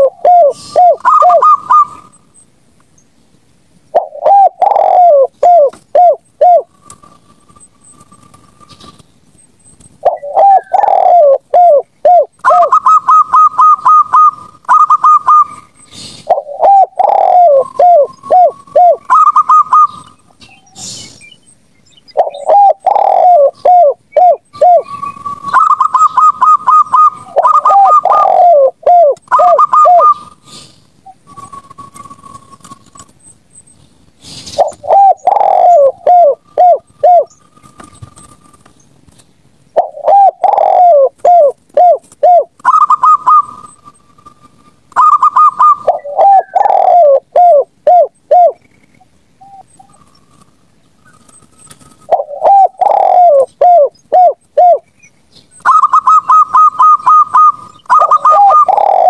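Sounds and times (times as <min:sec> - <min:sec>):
doves cooing: 0:00.0 - 0:02.2, 0:03.9 - 0:09.0, 0:10.0 - 0:21.2, 0:22.1 - 0:33.1, 0:34.2 - 0:38.8, 0:39.7 - 0:48.7, 0:49.4 - 0:54.9, 0:55.5 - 0:59.0.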